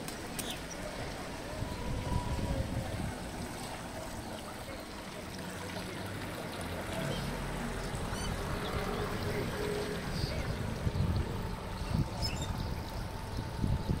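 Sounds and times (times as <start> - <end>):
faint distant voices: 0.0 - 14.0.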